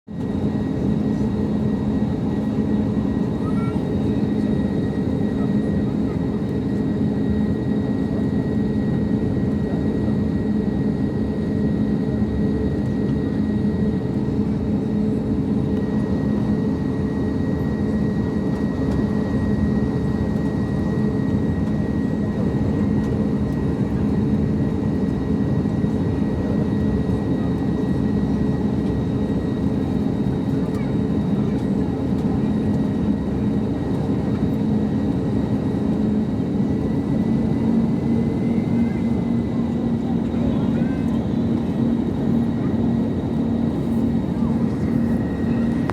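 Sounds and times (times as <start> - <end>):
airliner cabin engine rumble: 0.2 - 45.9.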